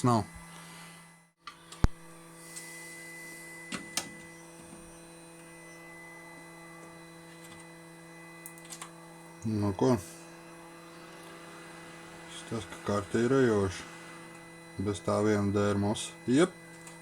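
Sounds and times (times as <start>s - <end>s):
electrical hum: 0.0s - 17.0s
faint high whine: 0.0s - 17.0s.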